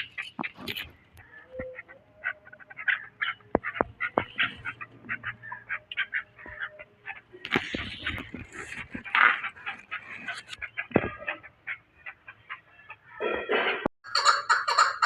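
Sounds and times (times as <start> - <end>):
birds calling rapidly: 0.0 - 13.3.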